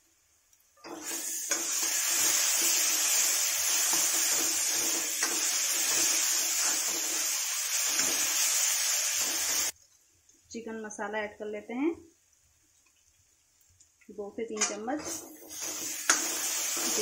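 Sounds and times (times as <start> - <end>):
masala sizzling in a pan: 0.0 - 17.0.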